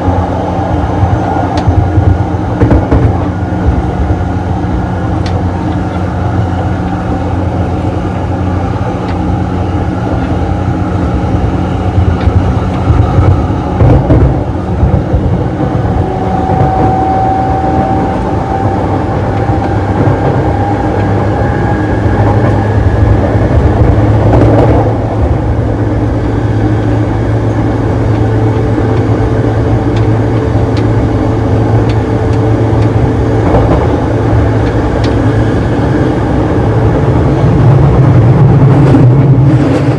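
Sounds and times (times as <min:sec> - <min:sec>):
train car jolts and thumps: 0:00.0 - 0:25.9, 0:26.6 - 0:39.9
traction motor whine: 0:00.0 - 0:39.9
train wheels rumbling on rails: 0:00.0 - 0:39.9.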